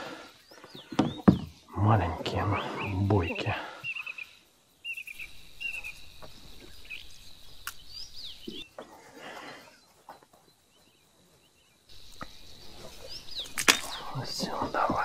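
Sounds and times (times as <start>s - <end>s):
birds chirping: 0.0s - 15.0s
high insect trill: 0.0s - 15.0s.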